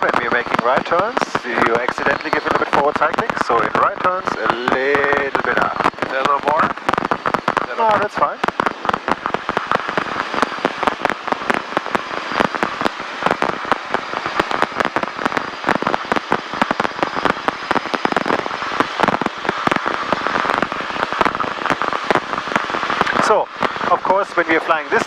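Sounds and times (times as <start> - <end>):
radio static crackling: 0.0 - 25.0.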